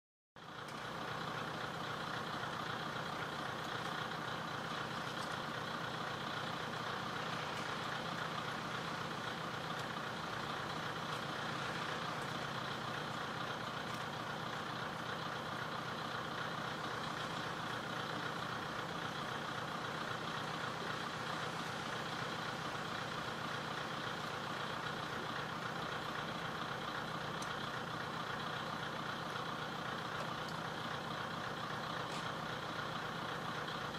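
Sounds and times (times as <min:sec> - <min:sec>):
diesel engine idling: 0:00.4 - 0:33.9.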